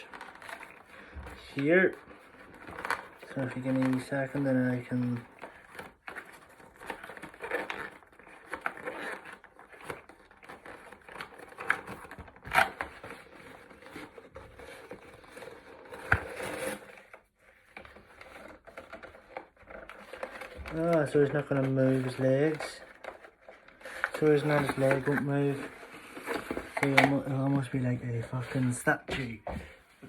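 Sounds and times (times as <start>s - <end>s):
plastic packaging crinkling: 0.0s - 29.4s.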